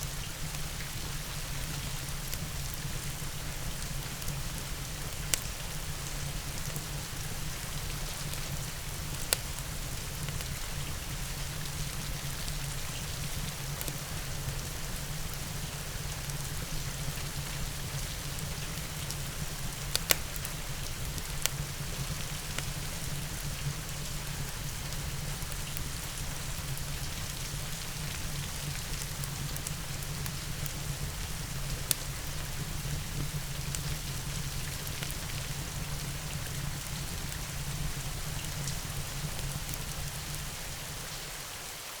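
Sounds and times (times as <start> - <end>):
log fire crackling: 0.0 - 41.5
steady rain: 0.0 - 42.0.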